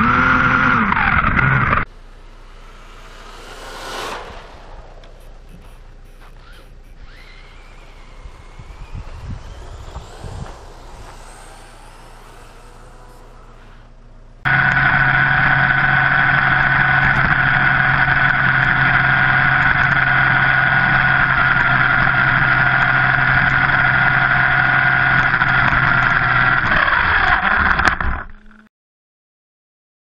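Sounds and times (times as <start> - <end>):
electric motor whine: 0.0 - 28.6
drivetrain running noise: 0.0 - 28.7.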